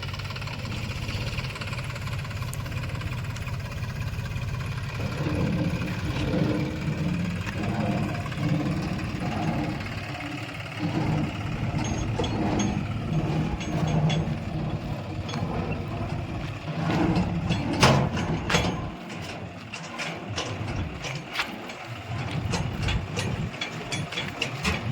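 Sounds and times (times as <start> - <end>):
backhoe diesel engine working: 0.0 - 24.9.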